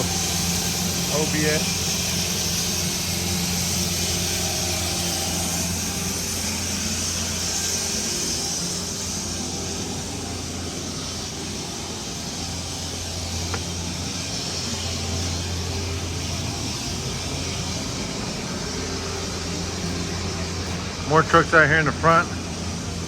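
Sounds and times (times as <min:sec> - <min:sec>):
broad hiss: 0:00.0 - 0:23.0
low mechanical hum: 0:00.0 - 0:23.0.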